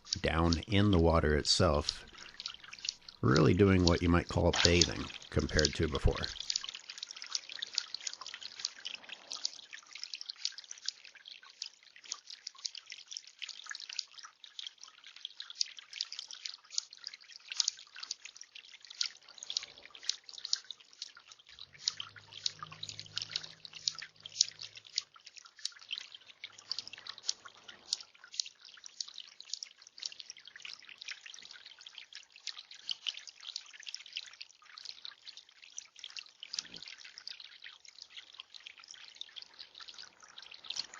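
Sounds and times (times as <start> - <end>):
fountain water dripping and splashing: 0.0 - 40.9.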